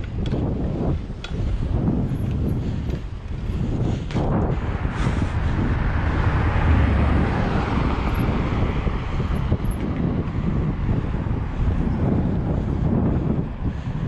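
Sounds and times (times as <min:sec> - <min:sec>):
highway traffic: 0:00.0 - 0:14.0
wind rushing over microphone: 0:00.0 - 0:14.0.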